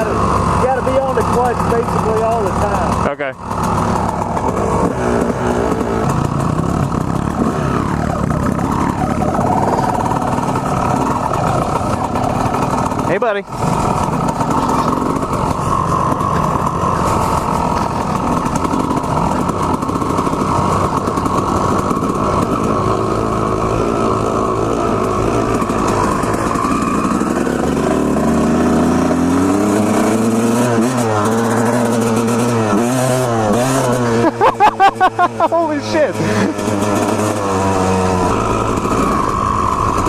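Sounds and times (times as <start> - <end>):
two-stroke motorcycle engine revving: 0.0 - 40.0.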